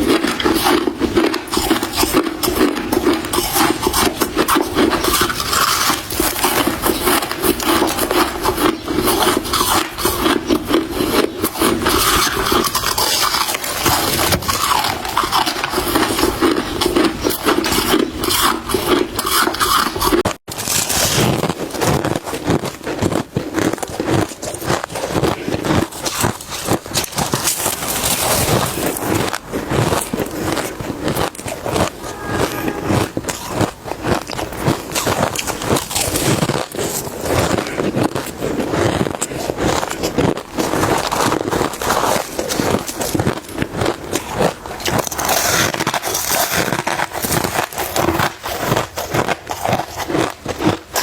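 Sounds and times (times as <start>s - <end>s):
crushed ice being crunched: 0.0s - 51.0s.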